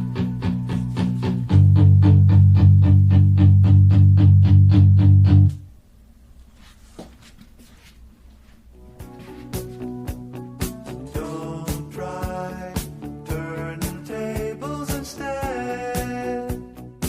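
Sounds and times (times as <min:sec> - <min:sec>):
guitar and bass music over loudspeakers: 0:00.0 - 0:05.6, 0:08.9 - 0:17.0.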